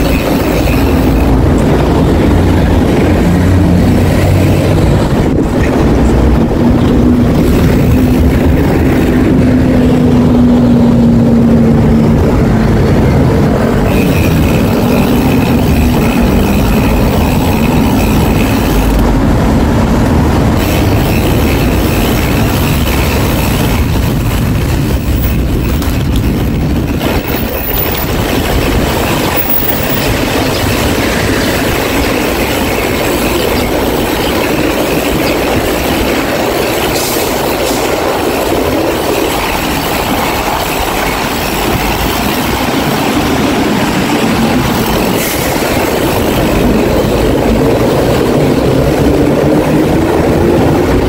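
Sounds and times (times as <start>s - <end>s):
city road traffic: 0.0s - 51.0s.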